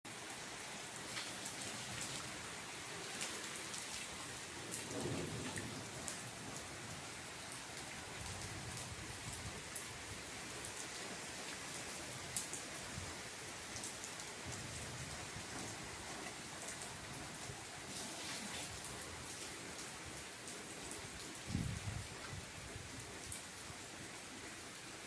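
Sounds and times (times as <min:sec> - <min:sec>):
steady rain falling: 0:00.1 - 0:25.0.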